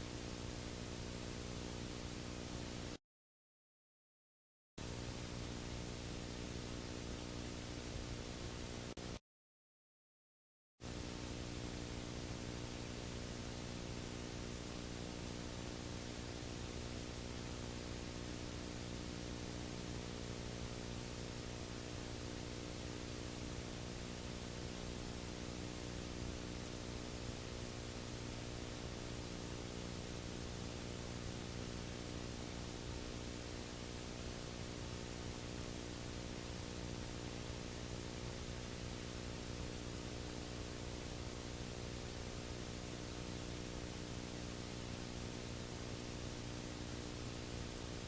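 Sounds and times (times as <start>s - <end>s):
buzzing electrical hum: 0.0s - 3.0s, 4.8s - 9.2s, 10.8s - 48.0s
steady hiss: 4.8s - 9.2s, 10.8s - 48.0s.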